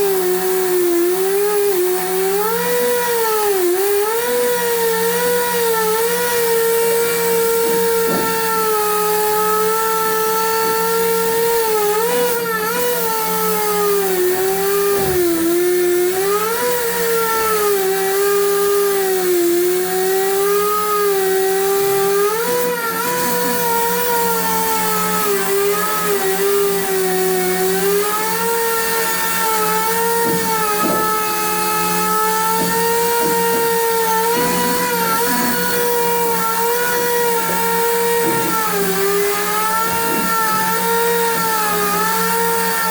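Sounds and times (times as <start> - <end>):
power tool motor whining: 0.0 - 42.9.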